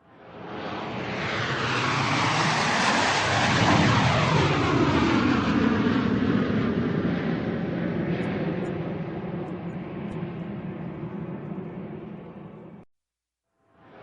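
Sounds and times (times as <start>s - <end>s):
airplane engine roar: 0.0s - 12.9s.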